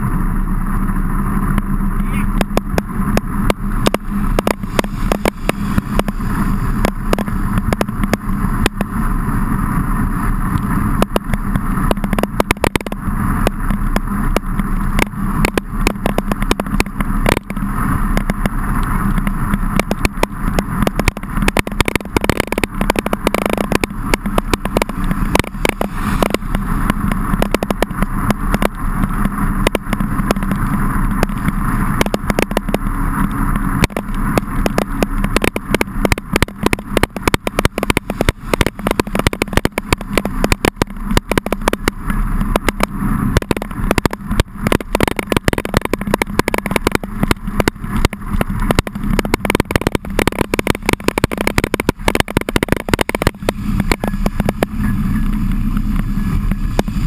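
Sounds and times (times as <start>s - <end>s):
rain on camera: 0.0s - 57.0s
wind and tyre noise rumbling: 0.0s - 57.0s
clicks and knocks from rough ride: 1.4s - 9.2s, 10.2s - 57.0s.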